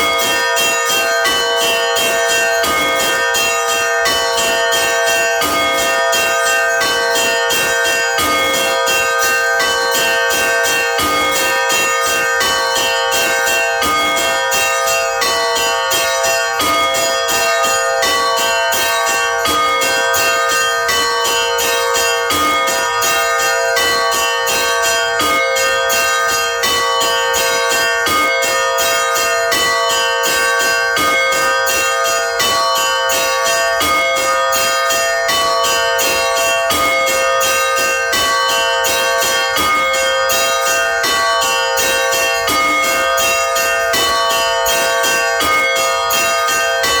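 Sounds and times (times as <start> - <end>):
church bells ringing rhythmically: 0.0 - 47.0
continuous bell ringing tone: 0.0 - 47.0.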